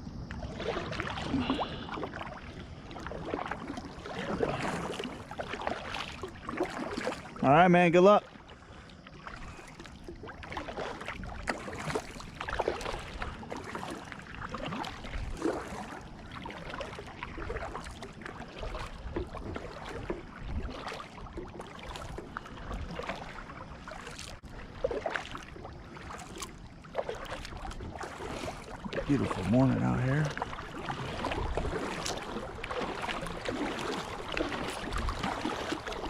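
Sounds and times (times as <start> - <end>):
water splashing against kayak hull: 0.0 - 36.0.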